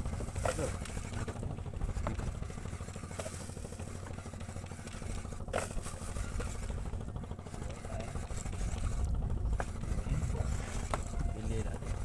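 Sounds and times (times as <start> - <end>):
boat engine throbbing: 0.0 - 12.0.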